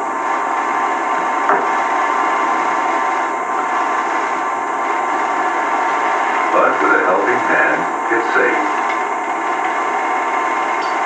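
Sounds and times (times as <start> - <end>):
faint hum: 0.0 - 11.0
television speaker hiss: 0.0 - 11.0.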